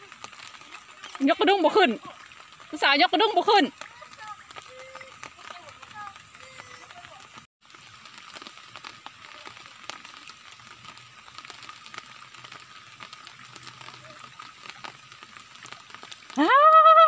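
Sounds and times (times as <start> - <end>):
crackling patter of water: 0.0 - 17.0.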